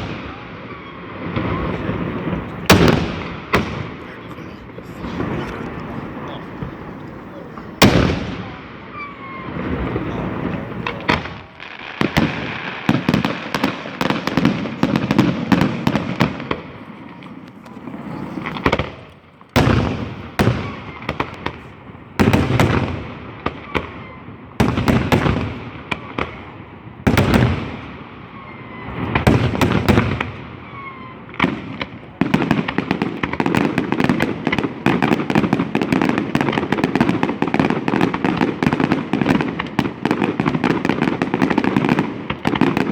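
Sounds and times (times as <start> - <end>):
firework bangs: 0.0 - 42.9
firework crackling: 0.0 - 42.9.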